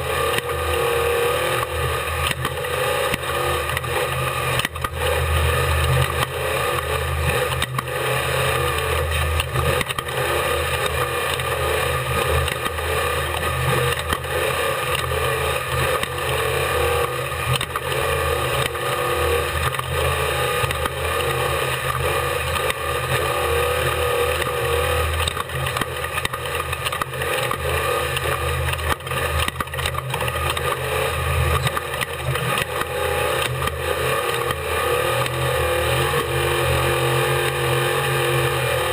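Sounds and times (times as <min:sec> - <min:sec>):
race vehicle engine running hard: 0:00.0 - 0:38.9.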